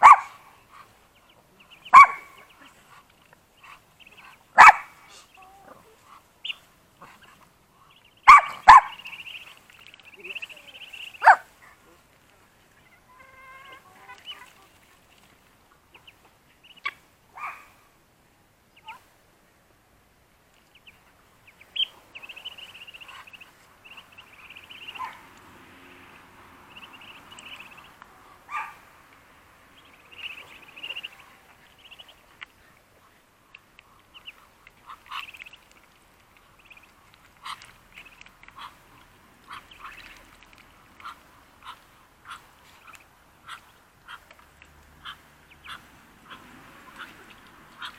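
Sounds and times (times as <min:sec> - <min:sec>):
ducklings peeping: 0:00.6 - 0:11.4, 0:12.8 - 0:15.3, 0:15.9 - 0:17.0, 0:20.6 - 0:32.6, 0:33.5 - 0:47.9.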